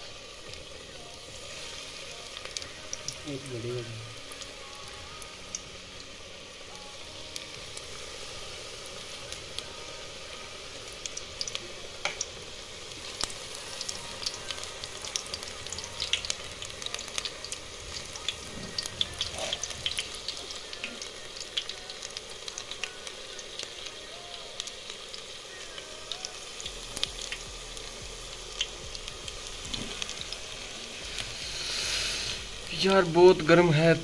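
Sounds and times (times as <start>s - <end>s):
food deep-frying in hot oil: 0.0s - 34.0s.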